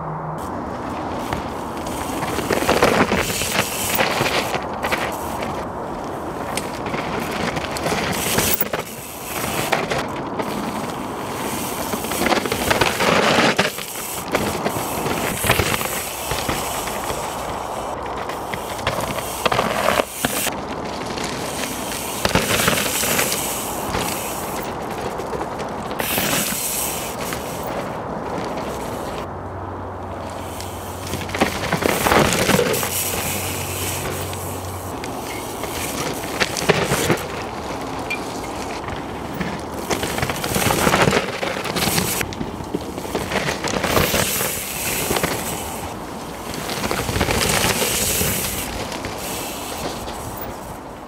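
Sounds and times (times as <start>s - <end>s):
bike rattling: 0.4s - 51.0s
bike tyres rolling over dirt: 0.4s - 51.0s.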